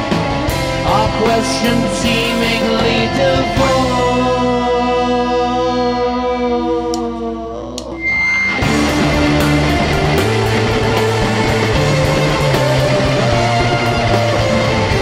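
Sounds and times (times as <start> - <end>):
rock band playing instrumental: 0.0 - 6.3, 8.0 - 15.0.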